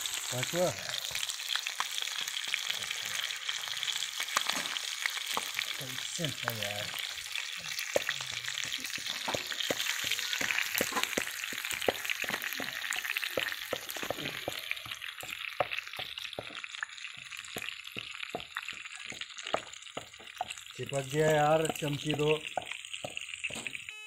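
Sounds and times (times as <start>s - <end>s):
hot oil sizzling and popping: 0.0s - 24.0s.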